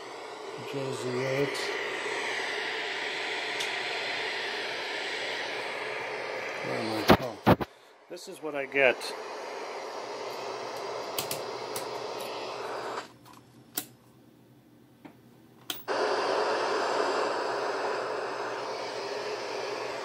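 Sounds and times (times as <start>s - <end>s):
static hiss: 0.0s - 13.1s, 15.9s - 20.0s.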